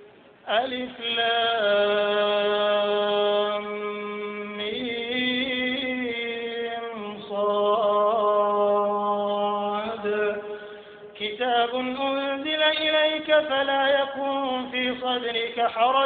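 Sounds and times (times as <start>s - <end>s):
man chanting recitation: 0.5s - 10.5s, 11.1s - 16.0s.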